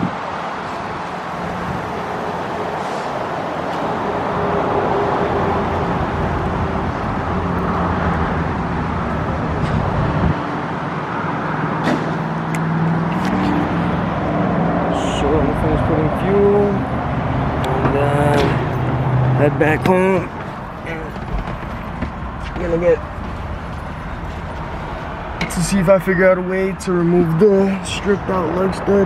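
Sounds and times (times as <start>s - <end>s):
road traffic noise: 0.0s - 29.0s
vehicle engine humming: 0.0s - 29.0s.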